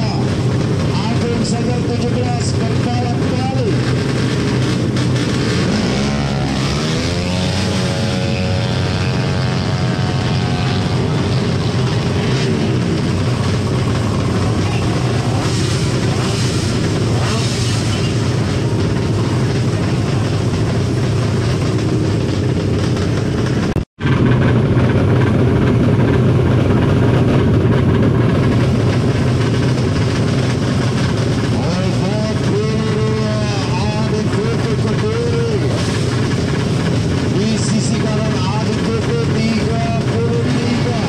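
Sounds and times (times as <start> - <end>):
motorcycle engine running loud: 0.0 - 41.0.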